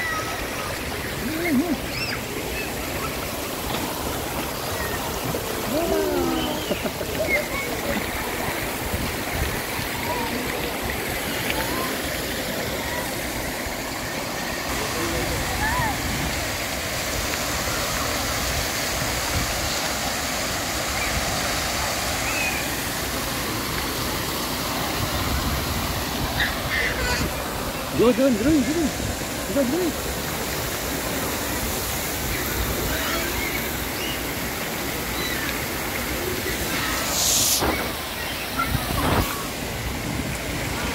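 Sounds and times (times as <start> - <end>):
faint voices: 0.0 - 40.9
fountain water splashing: 0.0 - 40.9.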